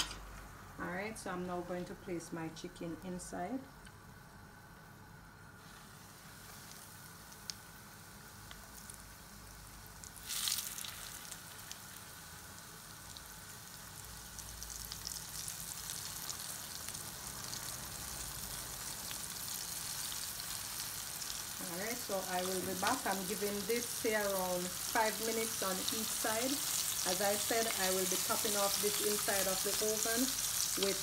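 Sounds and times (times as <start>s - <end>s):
chicken sizzling in hot oil: 5.5s - 31.0s.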